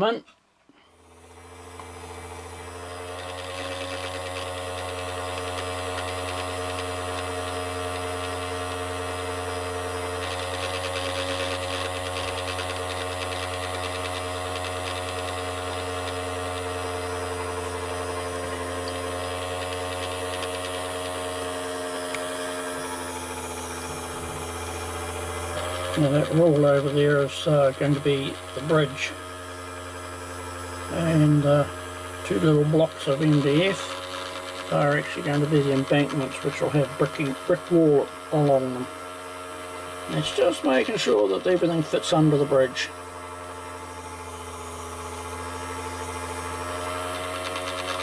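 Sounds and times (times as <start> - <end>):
small electric motor humming: 0.0 - 48.0.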